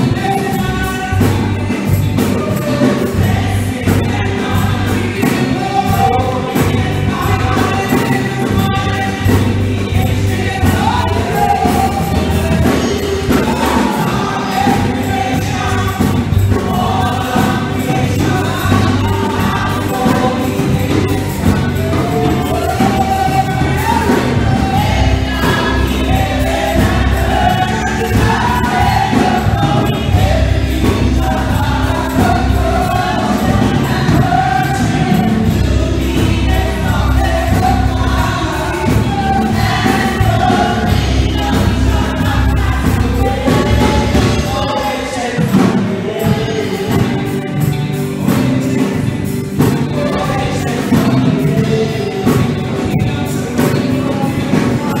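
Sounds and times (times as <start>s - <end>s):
band with steady bass line: 0.0s - 55.0s
choir singing: 0.0s - 55.0s
women singing together: 0.0s - 55.0s.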